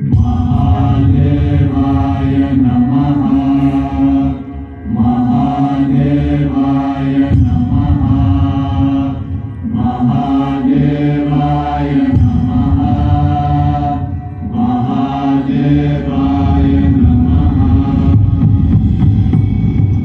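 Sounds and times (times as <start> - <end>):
deep voices chanting: 0.0 - 19.4
music: 0.0 - 20.0.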